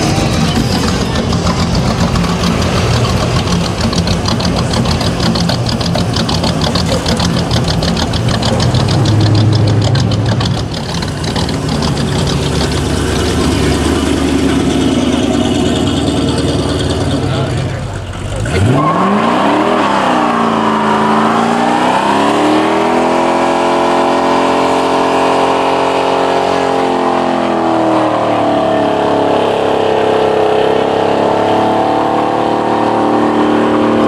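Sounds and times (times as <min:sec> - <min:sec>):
car engines rumbling past: 0:00.0 - 0:34.0.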